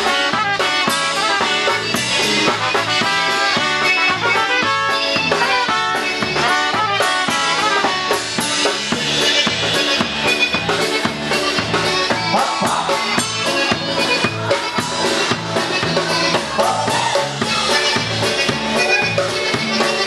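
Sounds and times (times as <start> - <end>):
drum kit beat: 0.0 - 20.0
polka band playing: 0.0 - 20.0
trumpets playing tune: 0.0 - 20.0.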